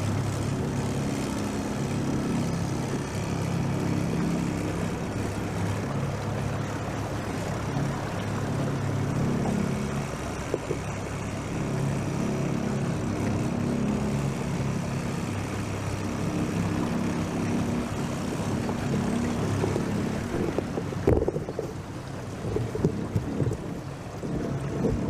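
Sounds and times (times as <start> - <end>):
motorboat engine humming: 0.0 - 25.0.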